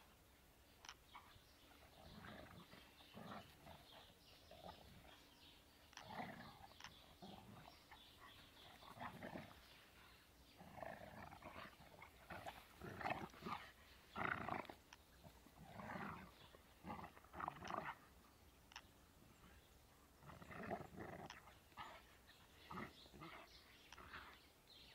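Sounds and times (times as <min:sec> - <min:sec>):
dogs growling in play: 0:01.1 - 0:24.9.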